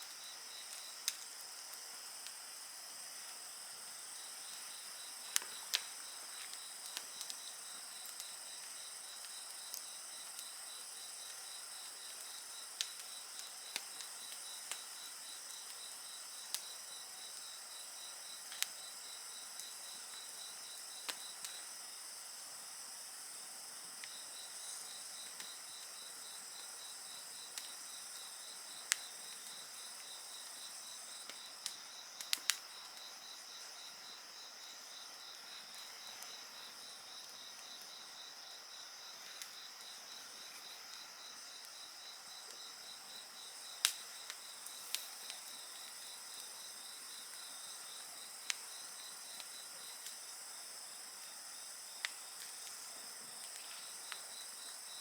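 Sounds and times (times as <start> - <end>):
wood fire crackling: 0.0 - 21.9, 23.9 - 33.9, 39.1 - 50.3, 51.9 - 54.8
insects trilling: 0.0 - 55.0.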